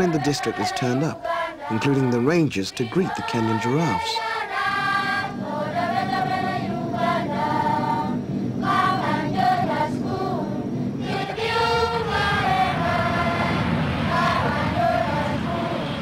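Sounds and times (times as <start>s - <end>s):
crowd singing in chorus: 0.0s - 16.0s.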